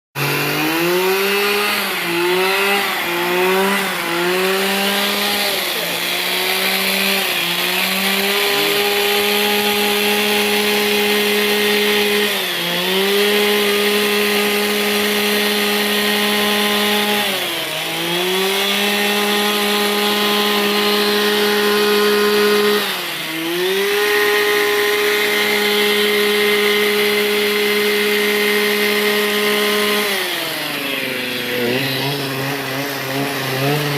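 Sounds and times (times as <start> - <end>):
two-stroke power tool running: 0.2 - 33.9.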